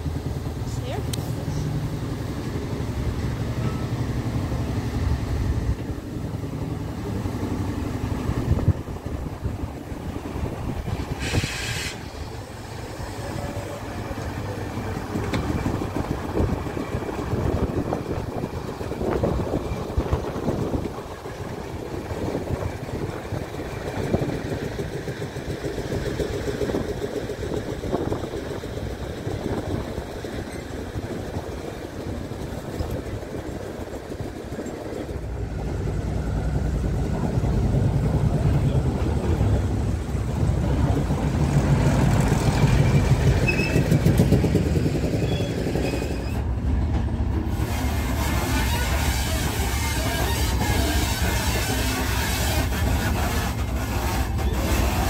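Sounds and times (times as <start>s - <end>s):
train coaches rumbling past: 0.0s - 55.0s.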